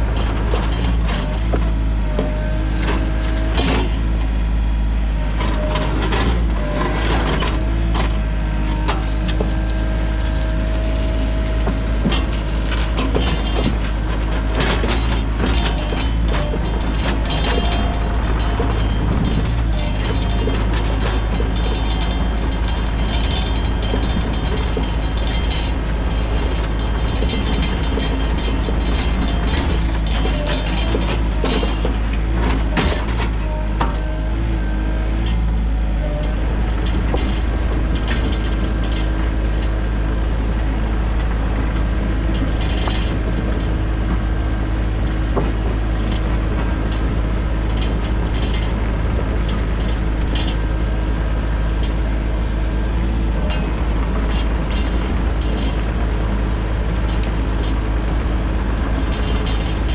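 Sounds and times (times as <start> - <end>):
excavator diesel engine running: 0.0 - 59.9
metal clanks and knocks: 0.0 - 59.9.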